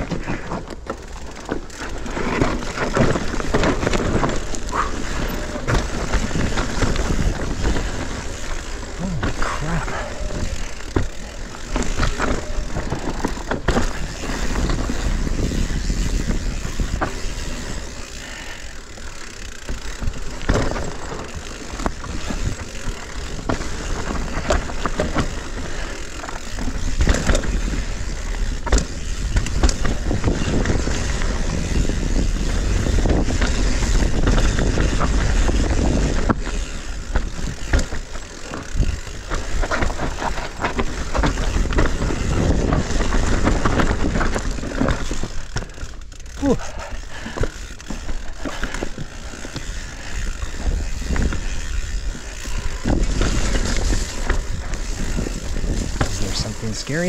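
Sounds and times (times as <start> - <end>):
bike clattering with sharp knocks: 0.0 - 56.6
tyres rumbling over rocky dirt: 0.0 - 57.0.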